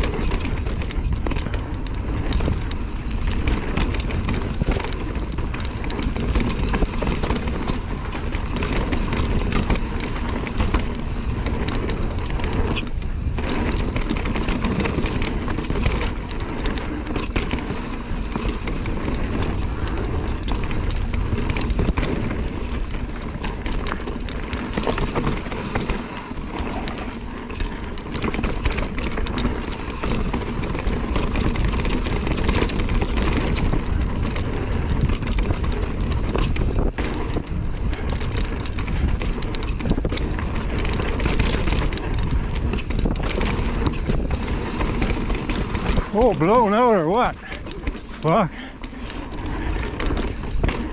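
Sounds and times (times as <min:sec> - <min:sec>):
bike knocking and rattling: 0:00.0 - 0:50.9
tyres rolling over dirt: 0:00.0 - 0:50.9
wind rush on microphone: 0:00.0 - 0:50.9.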